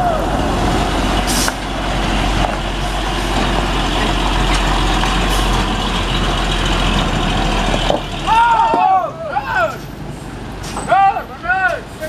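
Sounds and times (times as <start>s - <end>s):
diesel truck engine running: 0.0s - 10.8s.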